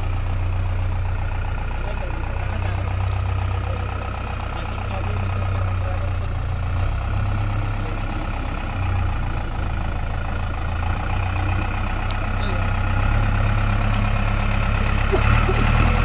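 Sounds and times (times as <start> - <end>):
diesel engine low rumble: 0.0 - 16.0.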